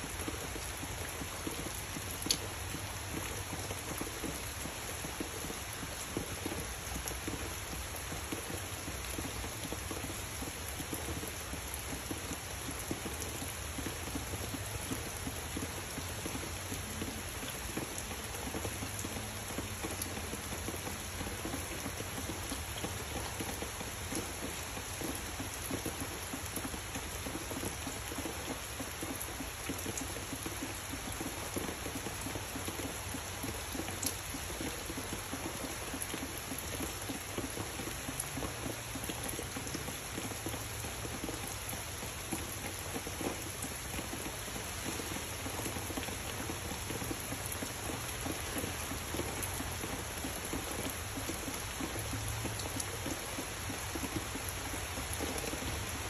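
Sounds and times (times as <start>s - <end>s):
rain on tree foliage: 0.0s - 56.0s.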